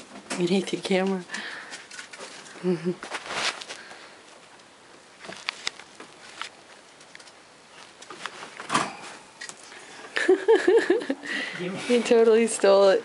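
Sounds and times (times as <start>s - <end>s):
faint rustling and handling noise: 0.1s - 10.2s, 11.5s - 13.0s.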